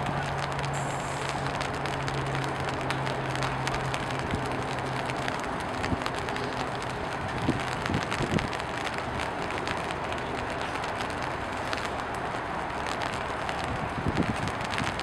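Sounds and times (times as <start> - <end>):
faint clicks: 0.0 - 15.0.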